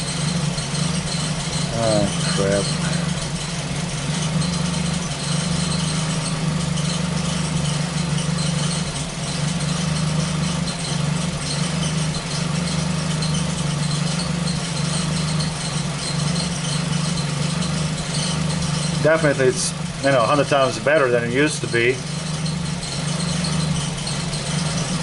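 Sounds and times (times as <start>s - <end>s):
car engine idling: 0.0s - 25.0s
engine misfire: 0.0s - 25.0s.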